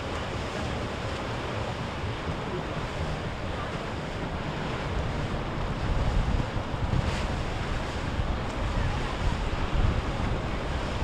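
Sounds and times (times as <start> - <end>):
water wash from boat wakes: 0.0 - 11.0
wind on microphone: 0.0 - 11.0.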